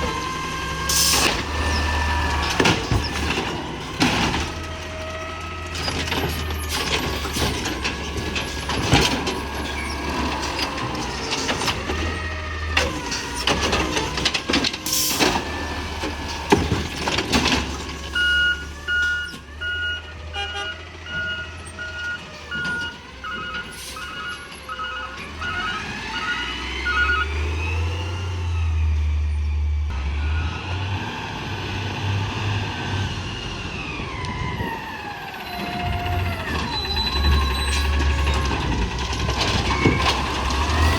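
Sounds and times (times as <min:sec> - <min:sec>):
garbage truck diesel engine revving: 0:00.0 - 0:40.9.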